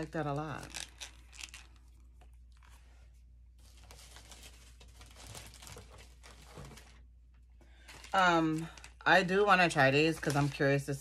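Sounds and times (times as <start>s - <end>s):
packaging rustling and crinkling: 0.2s - 7.1s, 7.8s - 11.0s.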